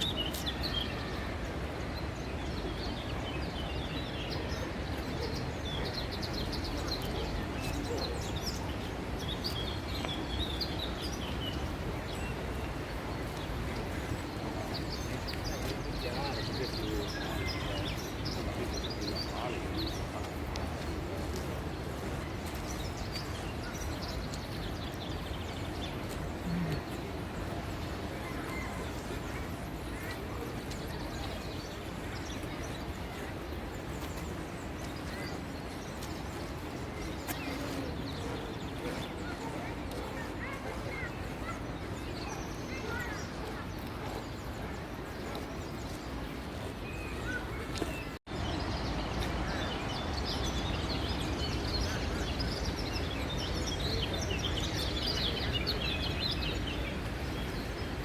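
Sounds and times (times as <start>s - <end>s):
outdoor background noise: 0.0s - 58.0s
small birds chirping: 2.0s - 58.0s.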